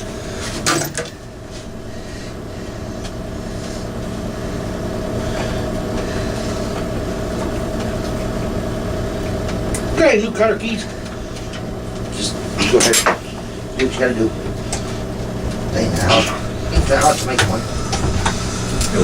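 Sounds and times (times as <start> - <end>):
steady motor hum: 0.0 - 19.0.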